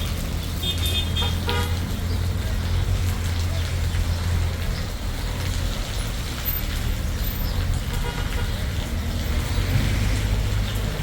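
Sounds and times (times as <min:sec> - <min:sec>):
motor vehicle humming: 0:00.0 - 0:11.0.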